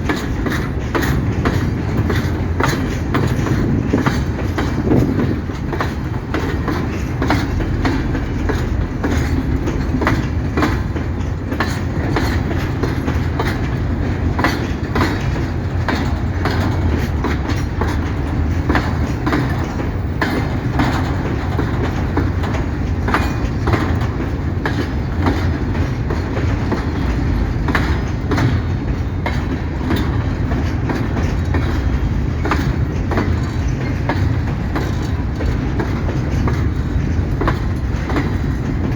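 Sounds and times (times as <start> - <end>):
freight wagons rumbling past: 0.0 - 38.9
wheel clacks over rail joints: 0.0 - 38.9.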